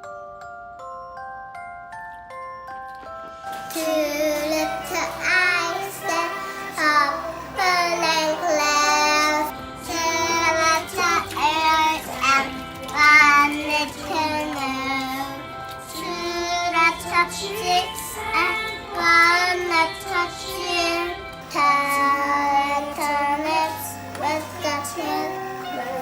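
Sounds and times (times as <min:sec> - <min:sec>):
instrumental accompaniment: 0:00.1 - 0:26.0
child singing: 0:03.7 - 0:26.0.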